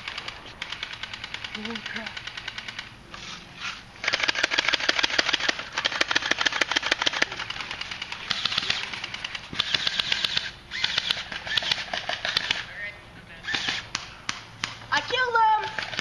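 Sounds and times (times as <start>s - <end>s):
airsoft guns firing bursts: 0.0s - 3.0s, 4.0s - 12.7s, 13.4s - 16.0s.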